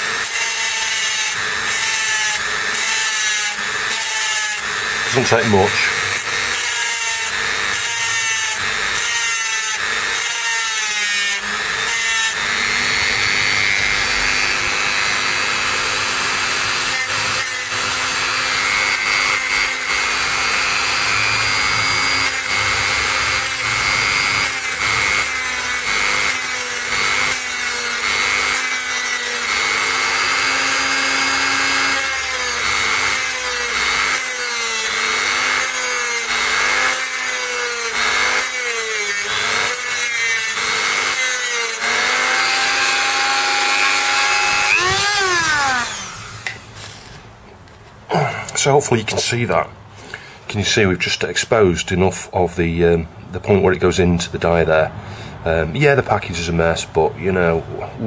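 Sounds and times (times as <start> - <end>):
rotary tool grinding whine: 0.0 - 47.2.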